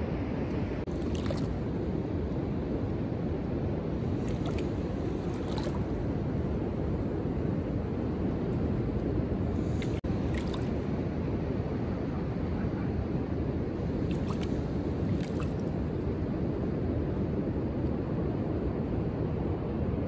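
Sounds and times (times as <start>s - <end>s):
beach wind: 0.0s - 20.0s
distant surf: 0.0s - 20.0s.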